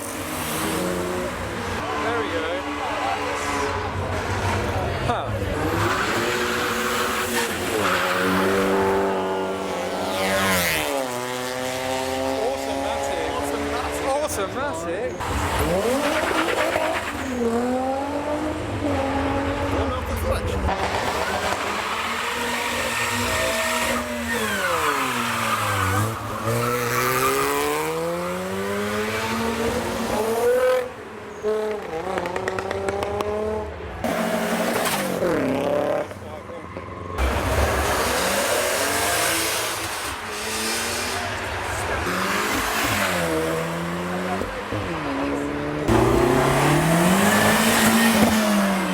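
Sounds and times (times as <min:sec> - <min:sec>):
car engine revving: 0:00.0 - 0:36.4, 0:37.1 - 0:48.9
tire noise: 0:00.0 - 0:48.9.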